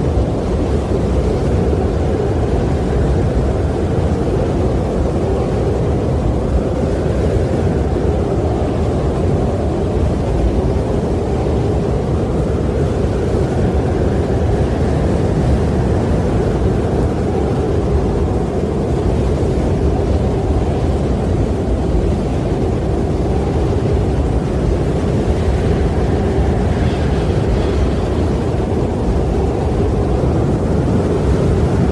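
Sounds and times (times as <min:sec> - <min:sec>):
strong wind with deep rumble: 0:00.0 - 0:31.9.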